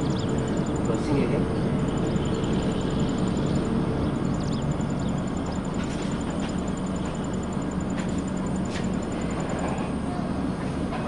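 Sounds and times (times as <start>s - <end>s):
passenger train rumbling: 0.0s - 11.0s.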